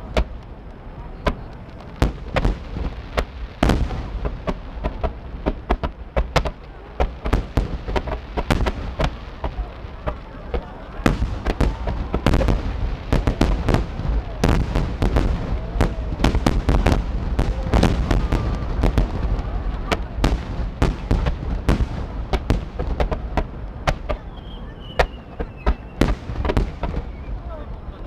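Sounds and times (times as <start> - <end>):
fireworks bangs and crackles: 0.0 - 28.0
low rumble of booms: 1.2 - 24.5.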